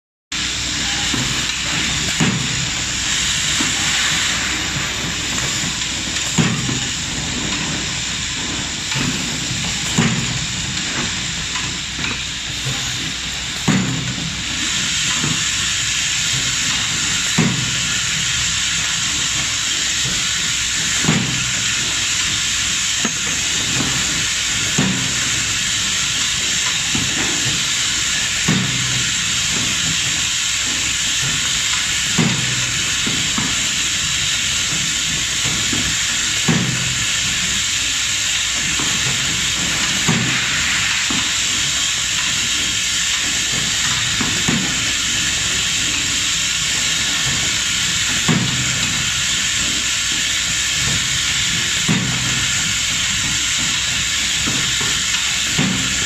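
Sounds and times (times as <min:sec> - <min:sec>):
machine hissing: 0:00.4 - 0:56.0.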